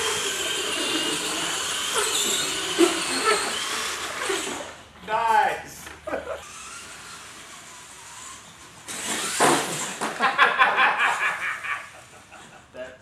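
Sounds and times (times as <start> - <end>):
rc truck motor and tyre noise: 0.0 - 5.0, 5.8 - 10.4, 11.0 - 12.7.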